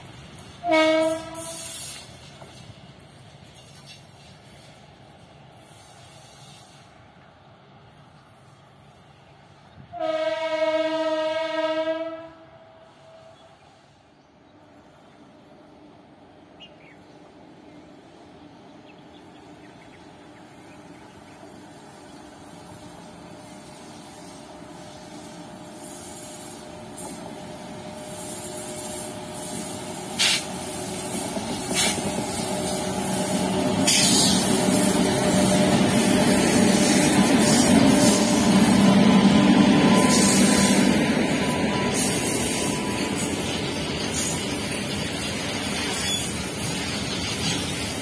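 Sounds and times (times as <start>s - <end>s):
freight train passing: 0.0s - 48.0s.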